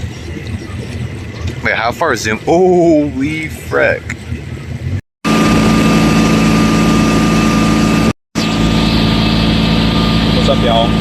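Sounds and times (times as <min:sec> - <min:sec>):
large engine drone: 0:00.0 - 0:11.0
thin steady whine: 0:00.0 - 0:11.0.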